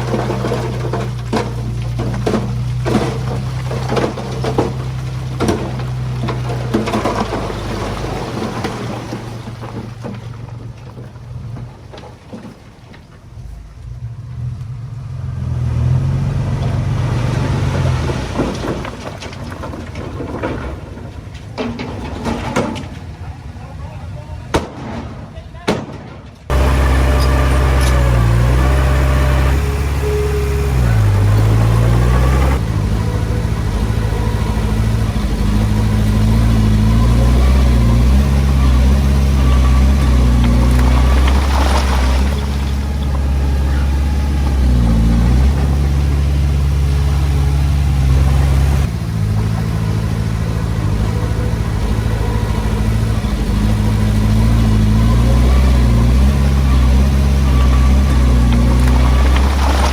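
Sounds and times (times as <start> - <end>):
bulldozer diesel engine: 0.0 - 25.6, 26.2 - 59.9.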